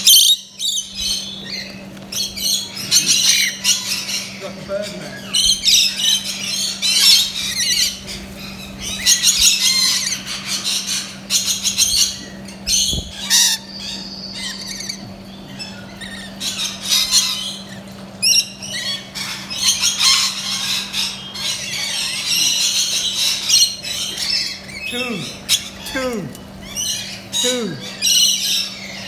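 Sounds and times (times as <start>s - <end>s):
lorikeets screeching: 0.0s - 29.0s.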